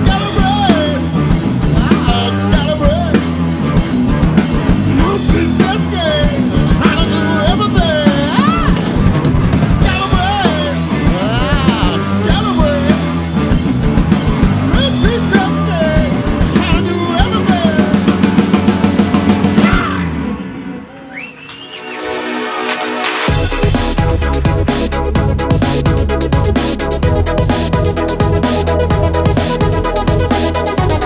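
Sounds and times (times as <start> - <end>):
rock band playing blues-rock: 0.0 - 20.8, 23.0 - 31.0.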